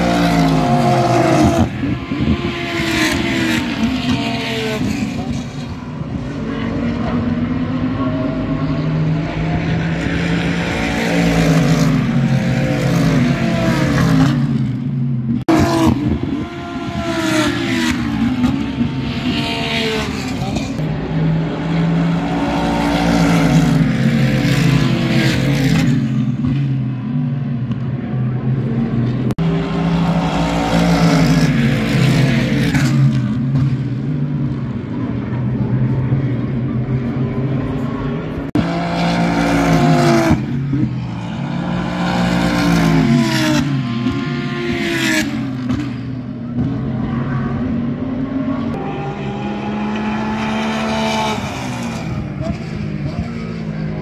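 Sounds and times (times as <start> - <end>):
race car engines at full throttle: 0.0 - 54.0.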